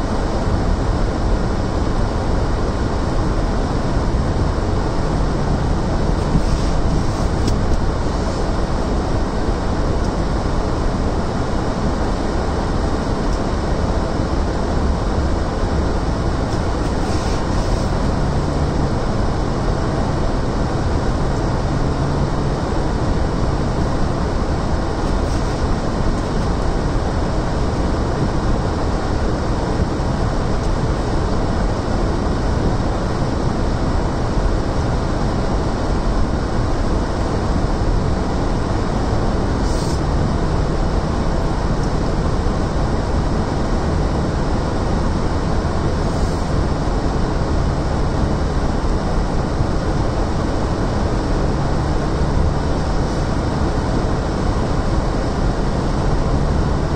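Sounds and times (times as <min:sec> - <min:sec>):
car road and engine noise: 0:00.0 - 0:56.9
tyres on snowy road: 0:00.0 - 0:56.9.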